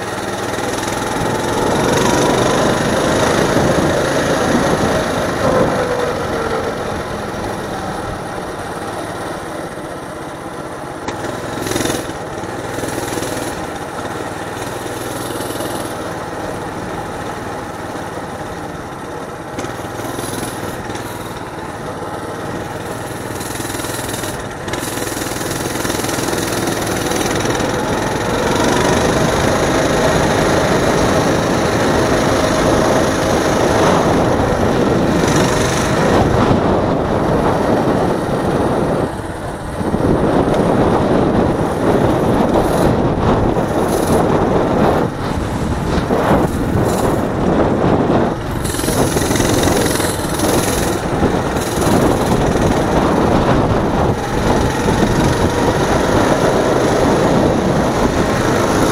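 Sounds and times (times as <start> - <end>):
mini bike engine running: 0.0 - 58.9.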